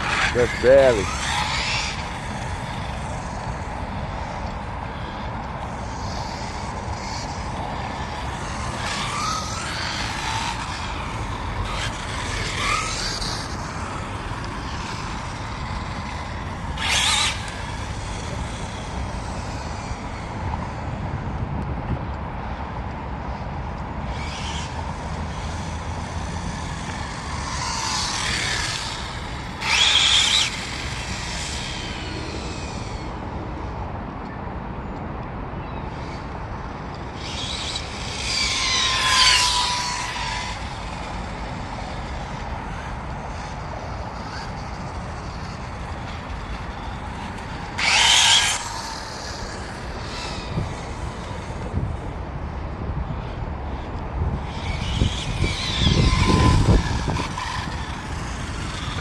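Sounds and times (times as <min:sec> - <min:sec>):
electric motor whine of rc buggy: 0:00.0 - 0:35.1, 0:35.8 - 0:59.0
steady background noise: 0:00.0 - 0:59.0.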